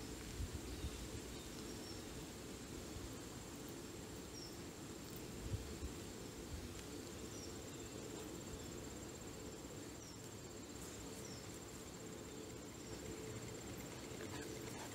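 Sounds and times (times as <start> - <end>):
crickets trilling: 0.0 - 14.9
faint steady hum: 0.0 - 14.9
low outdoor noise: 0.0 - 14.9.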